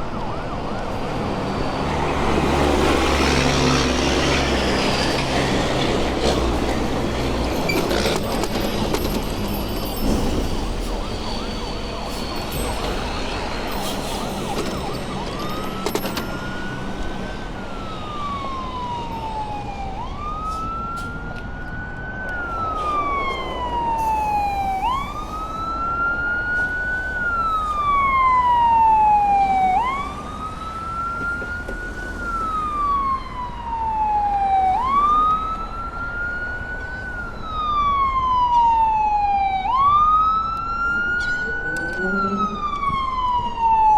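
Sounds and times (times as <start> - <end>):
city street traffic noise: 0.0 - 43.9
siren wailing: 0.0 - 43.9.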